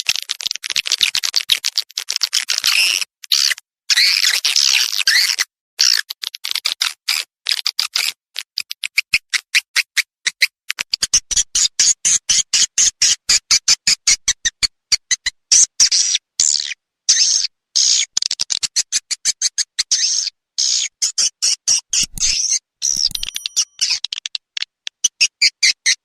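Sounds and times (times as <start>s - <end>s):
high-pitched bird chirps and clicks: 0.0s - 13.3s, 18.3s - 26.0s.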